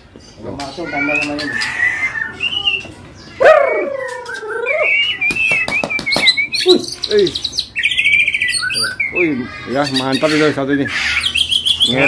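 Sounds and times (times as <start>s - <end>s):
bird singing whistles and trills: 0.8s - 2.9s, 3.7s - 12.0s.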